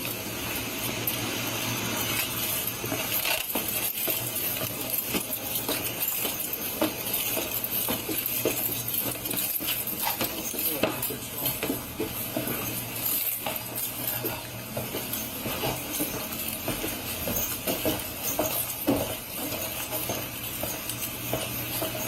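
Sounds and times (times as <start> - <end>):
footsteps: 0.0 - 22.0
duty gear jingling and clinking: 2.1 - 22.0.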